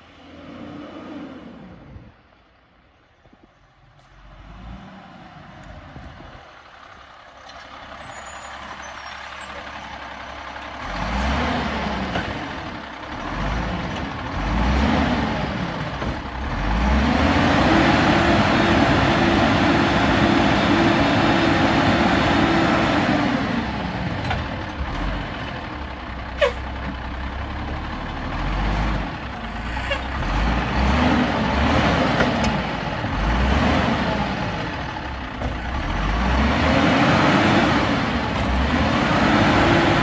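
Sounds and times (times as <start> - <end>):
diesel truck engine revving: 0.0 - 2.3, 4.0 - 40.0.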